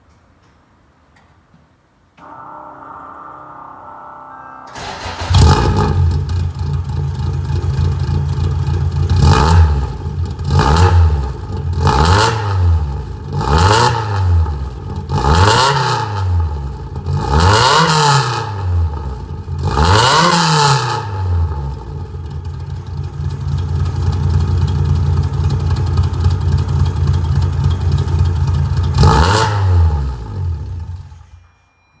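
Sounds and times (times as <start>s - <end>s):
car engine revving: 2.2s - 31.2s.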